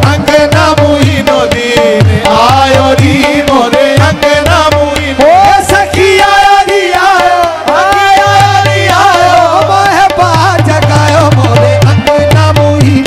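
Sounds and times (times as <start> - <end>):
harmonium: 0.0 - 13.0
tabla playing: 0.0 - 13.0.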